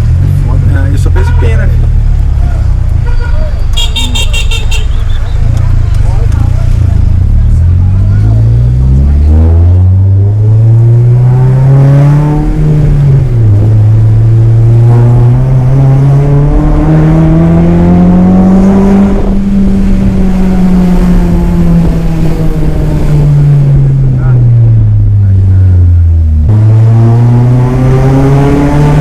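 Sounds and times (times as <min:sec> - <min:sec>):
car engine and exhaust revving: 0:00.0 - 0:29.0.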